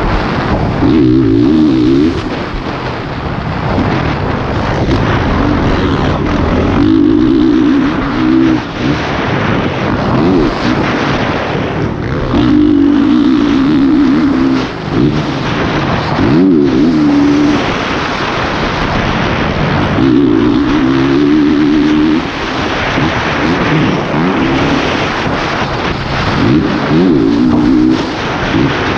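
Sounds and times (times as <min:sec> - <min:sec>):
motorcycle engine revving: 0:00.0 - 0:28.9
wind rushing: 0:00.0 - 0:28.9.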